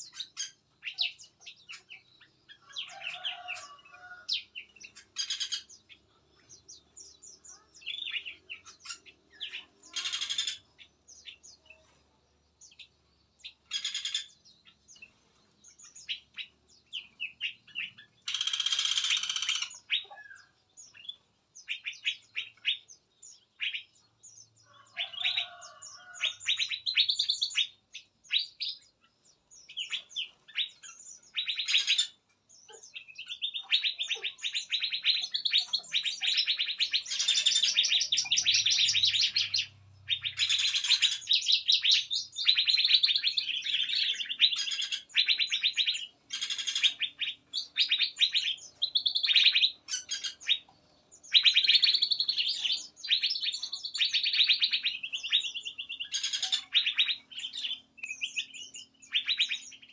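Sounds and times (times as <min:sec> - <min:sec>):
songbirds chirping and twittering: 0:00.0 - 0:59.9.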